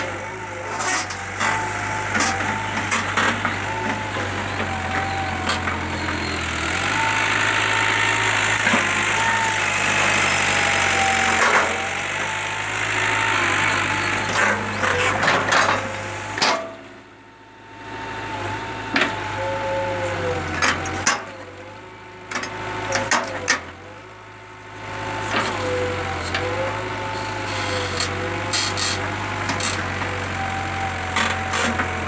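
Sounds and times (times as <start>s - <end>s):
backhoe engine whining: 0.0s - 32.0s.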